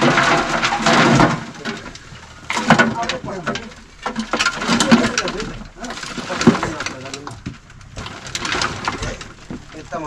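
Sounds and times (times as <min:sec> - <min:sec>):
knocks and clatters: 0:00.0 - 0:10.0.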